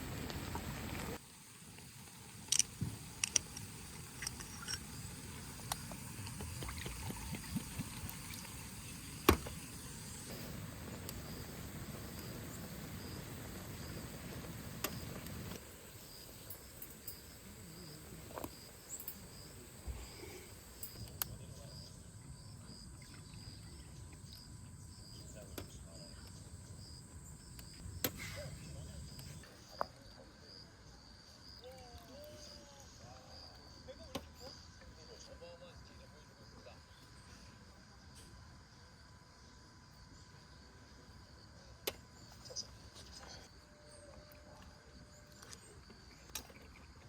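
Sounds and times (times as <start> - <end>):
crickets chirping: 0.0 - 47.0
faint outdoor hiss: 0.0 - 47.0.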